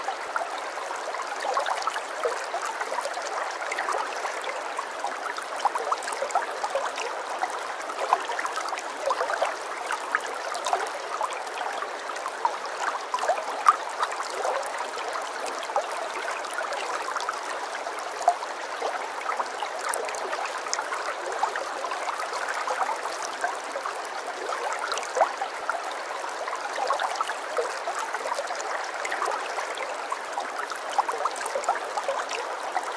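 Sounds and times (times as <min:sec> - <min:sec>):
stream babbling: 0:00.0 - 0:32.9.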